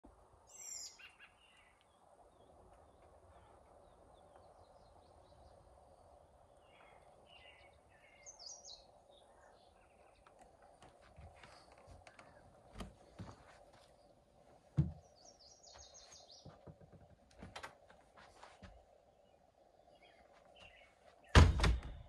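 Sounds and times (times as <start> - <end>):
faint songbirds chirping: 0.1 - 22.0.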